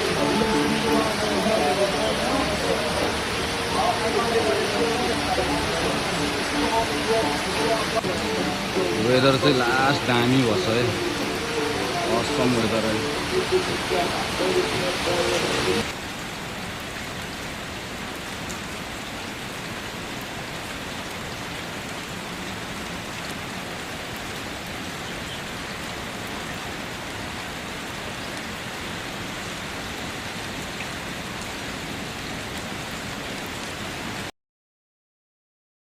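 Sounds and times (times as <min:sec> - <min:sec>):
steady rain hiss: 0:00.0 - 0:34.3.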